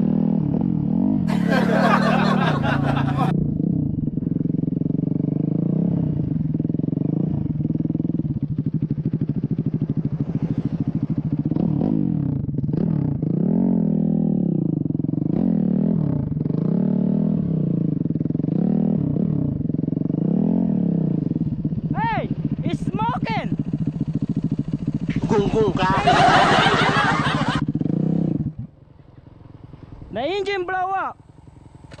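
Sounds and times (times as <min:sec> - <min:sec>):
dirt bike engine revving: 0:00.0 - 0:28.7.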